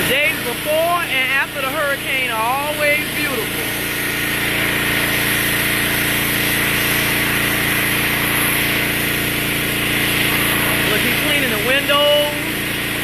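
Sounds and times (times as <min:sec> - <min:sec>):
generator engine running: 0:00.0 - 0:13.0
high-pressure water spray hissing: 0:00.0 - 0:13.0.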